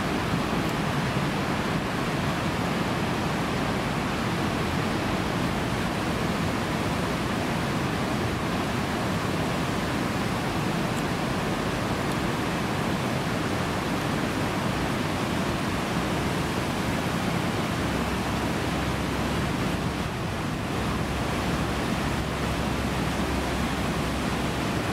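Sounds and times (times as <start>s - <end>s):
river water rushing: 0.0s - 24.9s.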